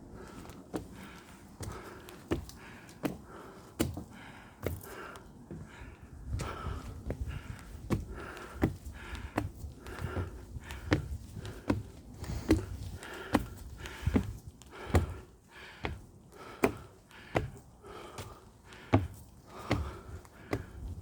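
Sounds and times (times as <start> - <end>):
person breathing: 0.0 - 21.0
footsteps on trail: 0.2 - 21.0.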